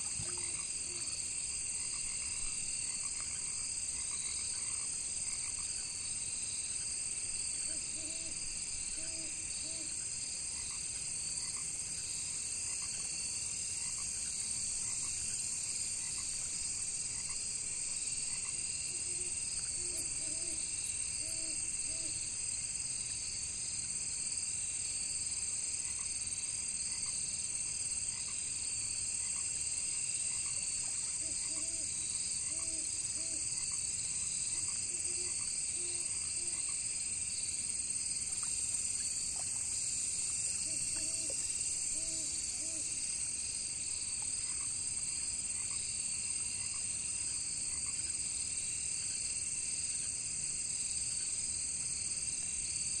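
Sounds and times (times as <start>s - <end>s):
frogs croaking: 0.0s - 23.2s, 28.0s - 48.5s
crickets trilling: 0.0s - 53.0s.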